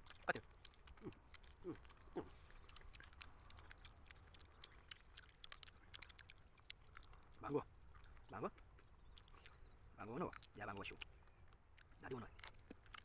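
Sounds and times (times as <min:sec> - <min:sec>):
eating clicks and crackles: 0:00.0 - 0:13.0.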